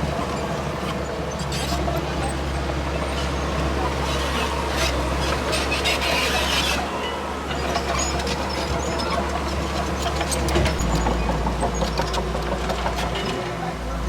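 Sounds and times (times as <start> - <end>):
heavy diesel machinery droning: 0.0 - 14.0.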